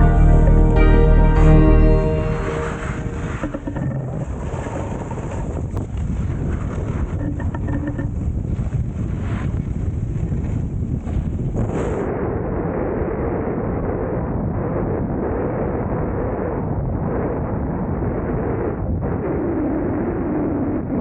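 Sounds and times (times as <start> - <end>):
wind buffeting microphone: 2.8 - 21.0.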